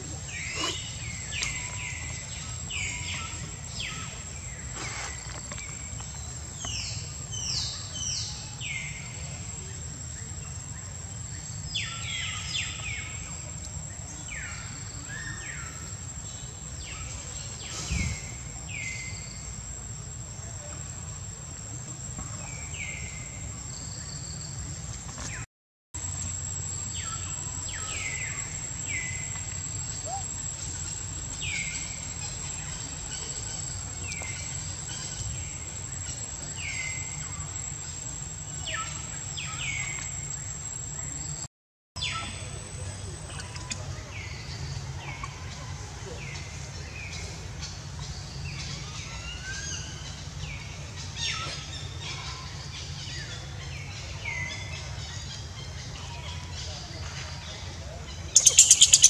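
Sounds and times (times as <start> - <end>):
birds chirping: 0.0 - 20.8, 22.1 - 59.0
insect drone: 0.0 - 25.4, 26.0 - 56.6, 57.4 - 59.0.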